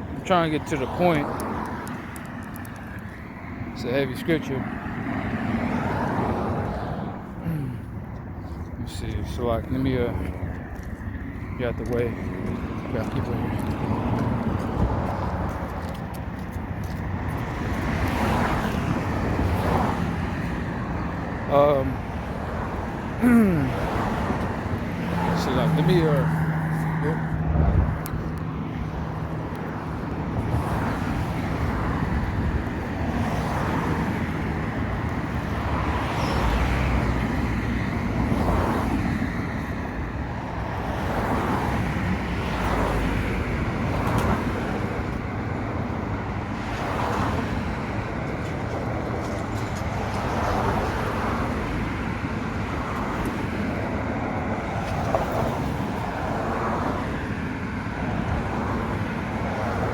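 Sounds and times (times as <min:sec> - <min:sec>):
road traffic noise: 0:00.0 - 0:59.9
vehicles passing: 0:00.0 - 0:59.9.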